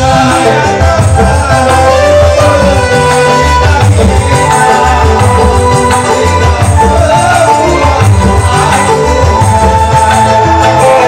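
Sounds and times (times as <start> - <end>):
band music over loudspeakers: 0.0 - 11.0.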